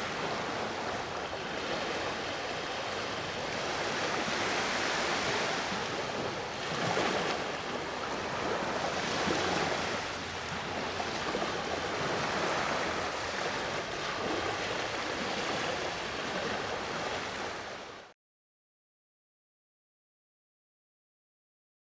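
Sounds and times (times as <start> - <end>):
sea waves washing on shore: 0.0 - 18.1.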